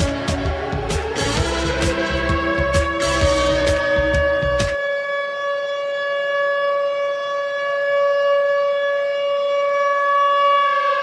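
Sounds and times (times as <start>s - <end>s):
hockey goal siren steady tone: 0.0s - 11.0s.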